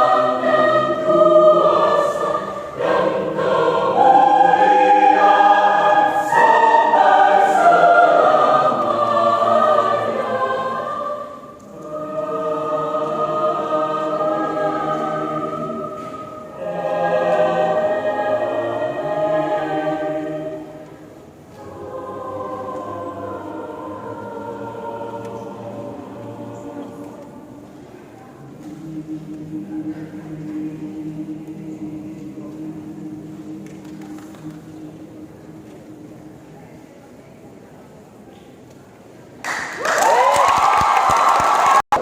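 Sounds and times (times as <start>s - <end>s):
choir singing: 0.0s - 38.2s, 39.8s - 42.0s.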